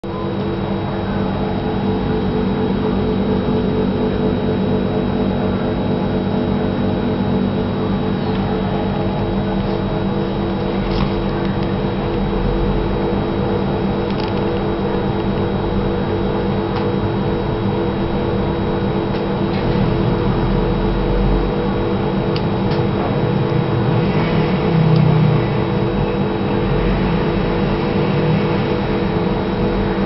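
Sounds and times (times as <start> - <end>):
steady droning hum: 0.0 - 30.0.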